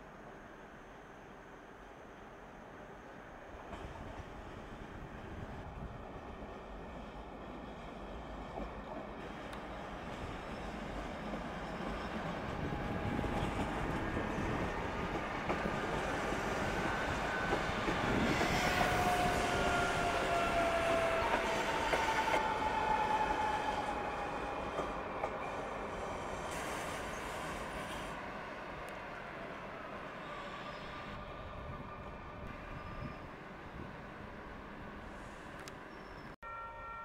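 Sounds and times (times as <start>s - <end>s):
train wheels on rails: 3.6s - 34.0s.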